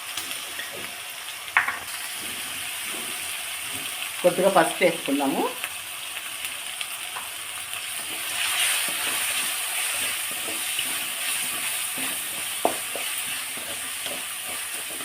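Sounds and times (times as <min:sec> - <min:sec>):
spoon scraping and tapping pan: 0:00.0 - 0:04.5, 0:07.0 - 0:15.0
onions sizzling in hot oil: 0:00.0 - 0:15.0.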